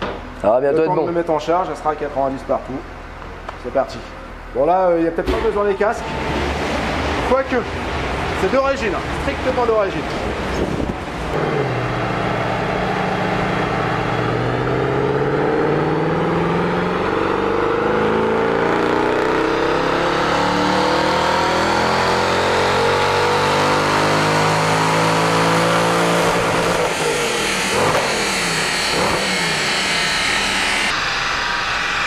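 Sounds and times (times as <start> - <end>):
car engine revving under load: 5.3 - 31.0.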